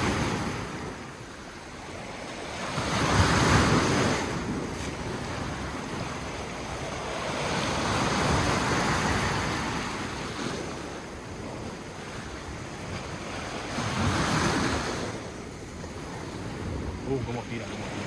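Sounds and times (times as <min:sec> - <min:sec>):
sea waves washing onto shore: 0:00.0 - 0:18.0
wind buffeting microphone: 0:00.0 - 0:18.0.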